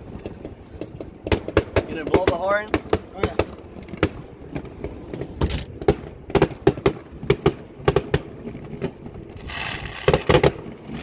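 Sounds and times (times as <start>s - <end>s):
crackling firework hiss: 0.0s - 11.0s
firework shells bursting: 0.0s - 11.0s.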